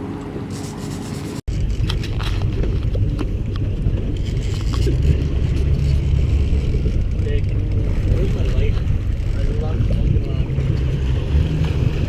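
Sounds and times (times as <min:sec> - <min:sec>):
boat engine rumble: 0:00.0 - 0:12.0
wind buffeting microphone: 0:01.5 - 0:12.0.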